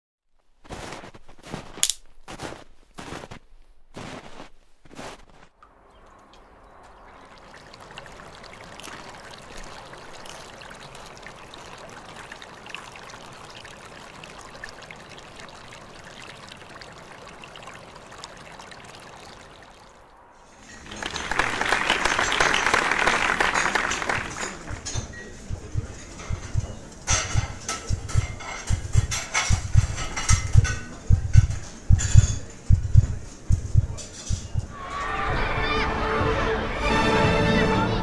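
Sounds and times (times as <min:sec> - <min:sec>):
trickling stream water: 0:04.0 - 0:35.0.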